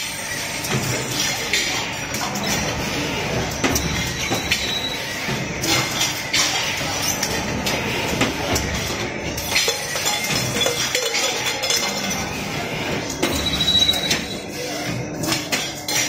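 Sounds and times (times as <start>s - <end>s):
factory machinery running: 0.0s - 16.0s
metallic clinks and clanks: 0.7s - 16.0s.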